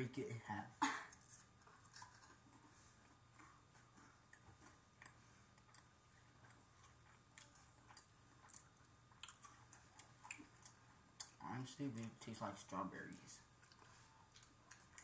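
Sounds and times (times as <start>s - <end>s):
chewing wafer with crunches: 1.1s - 12.2s, 13.4s - 15.0s.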